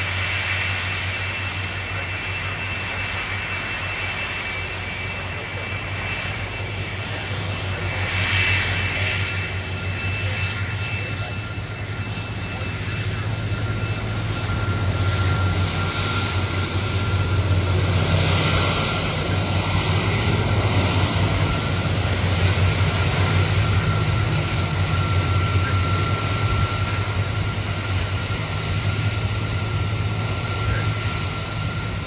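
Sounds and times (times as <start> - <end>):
jet engines rumble and whine: 0.0 - 32.0.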